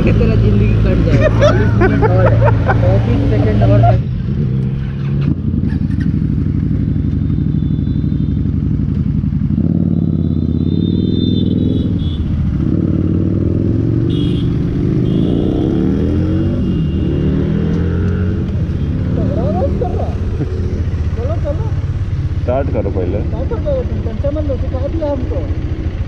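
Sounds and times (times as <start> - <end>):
motorcycle engines idling: 0.0 - 15.2, 17.6 - 26.0.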